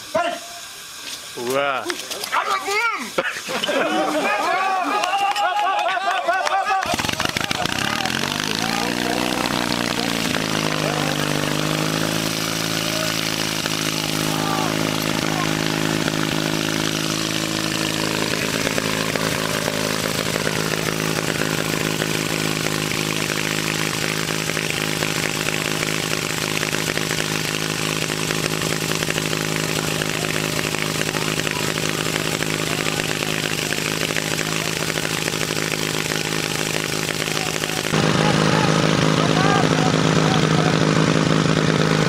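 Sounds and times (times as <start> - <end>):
portable pump engine running: 0.0 - 42.0.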